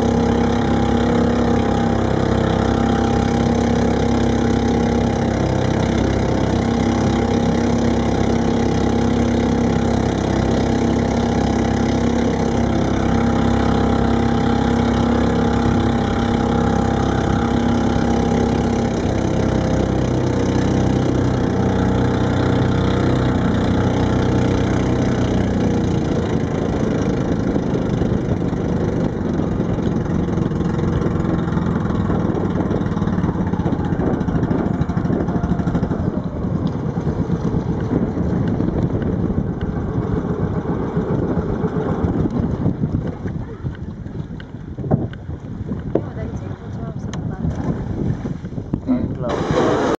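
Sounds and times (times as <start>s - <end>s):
boat engine running: 0.0s - 49.9s
steady rushing noise: 0.0s - 49.9s.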